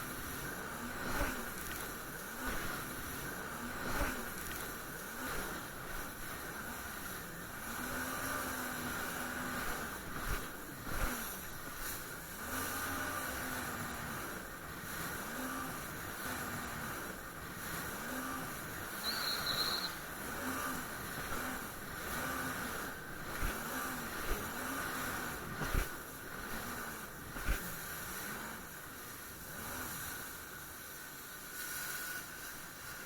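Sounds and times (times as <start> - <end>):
jet ski engine: 0.0 - 33.0
water and wind hiss: 0.0 - 33.0.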